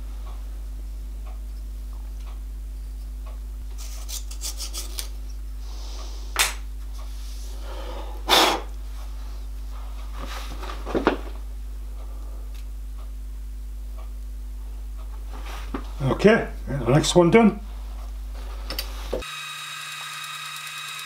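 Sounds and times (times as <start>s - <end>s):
steady low hum: 0.0s - 19.2s.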